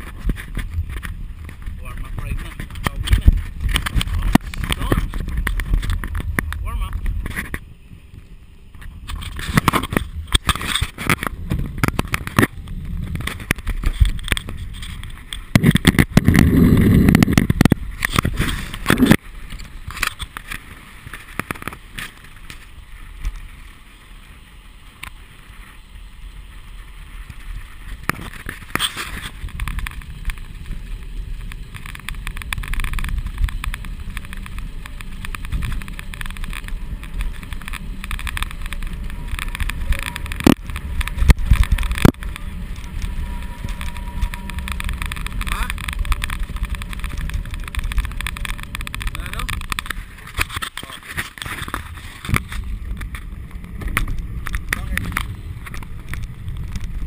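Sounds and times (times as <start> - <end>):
wind rushing over microphone: 0.0 - 21.8, 27.2 - 57.0
tyres rumbling on pavement: 0.0 - 57.0.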